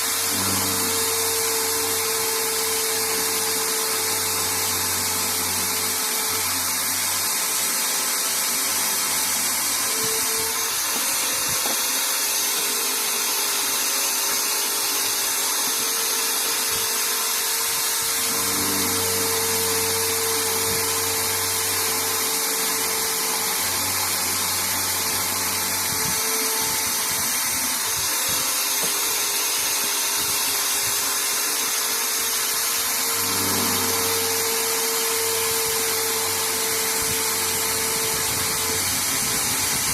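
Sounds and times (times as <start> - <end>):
bench drill motor running: 0.0 - 39.9.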